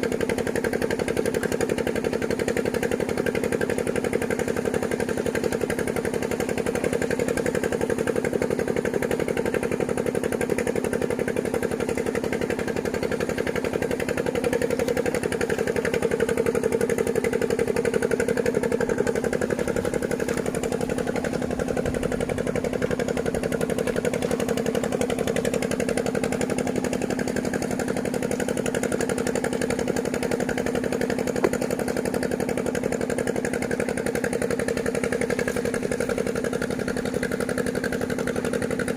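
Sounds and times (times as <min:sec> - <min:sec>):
engine chugging: 0:00.0 - 0:38.9.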